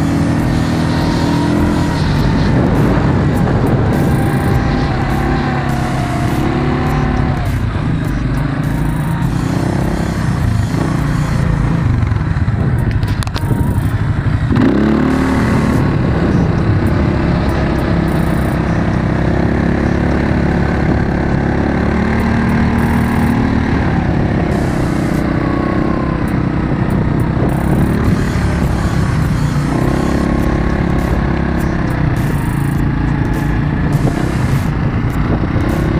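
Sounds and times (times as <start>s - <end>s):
quad bike engine revving: 0.0s - 35.9s.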